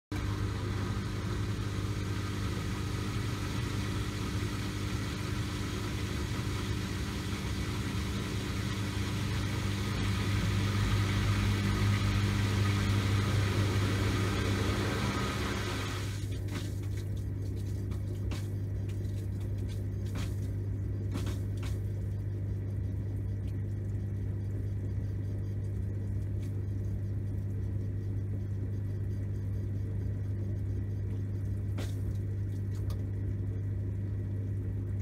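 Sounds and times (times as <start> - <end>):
washing machine drain pump humming: 0.1 - 35.0.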